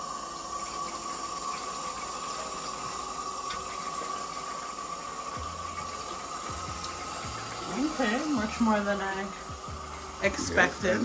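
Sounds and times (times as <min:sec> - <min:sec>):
tap water running into metal bowl: 0:00.0 - 0:11.0.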